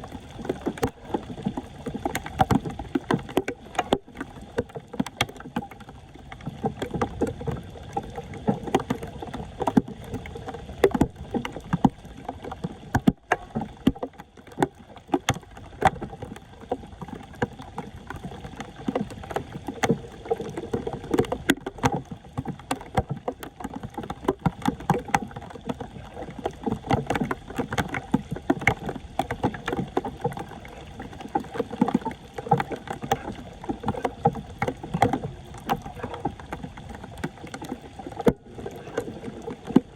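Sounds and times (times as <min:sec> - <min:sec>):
floodwater splashing: 0:00.0 - 0:39.9.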